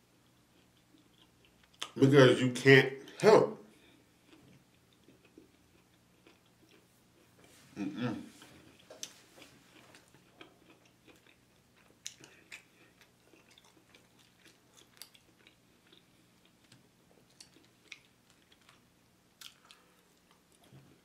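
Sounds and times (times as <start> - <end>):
chewing food: 0.0 - 2.0, 3.9 - 7.6, 8.4 - 21.0
faint steady hum: 0.0 - 21.0.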